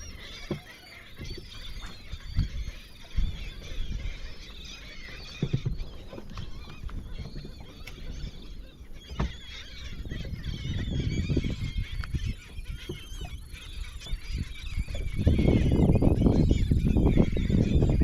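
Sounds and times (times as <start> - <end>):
seabirds calling: 0.0 - 18.0.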